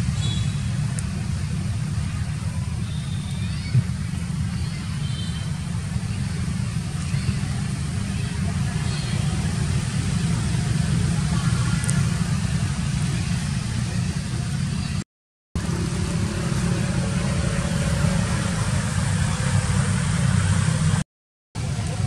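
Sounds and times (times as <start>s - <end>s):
low outdoor rumble: 0.0s - 15.0s, 15.6s - 21.0s.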